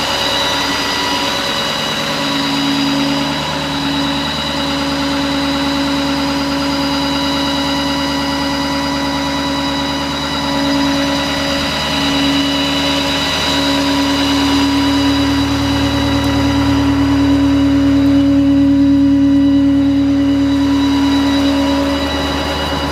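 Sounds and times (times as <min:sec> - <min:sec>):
steady droning tone: 0:00.0 - 0:22.9
truck engine idling: 0:00.0 - 0:22.9.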